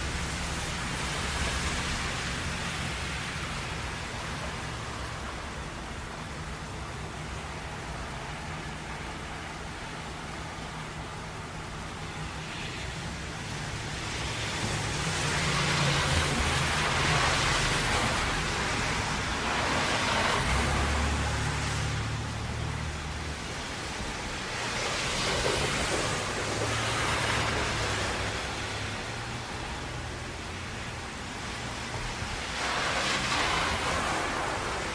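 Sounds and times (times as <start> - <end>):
rain: 0.0 - 34.9
tyres hissing through water: 0.0 - 34.9.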